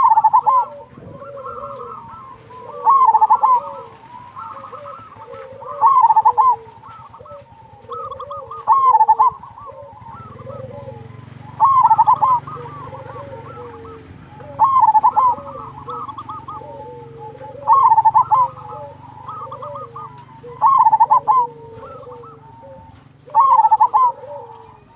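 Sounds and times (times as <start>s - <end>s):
doves cooing: 0.0s - 24.9s.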